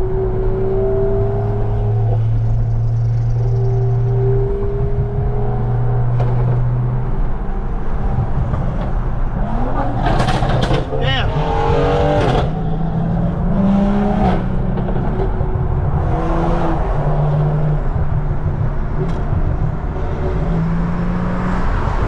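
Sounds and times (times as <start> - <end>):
car engine droning: 0.0 - 22.0
road and tyre noise: 0.0 - 22.0.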